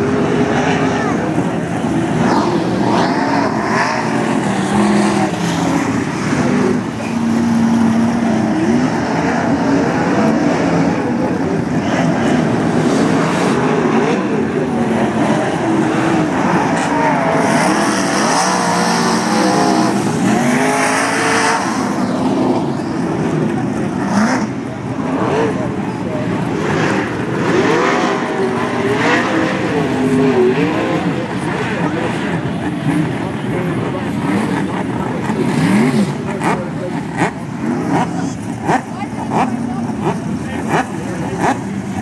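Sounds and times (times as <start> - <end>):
racing car engines: 0.0 - 42.0.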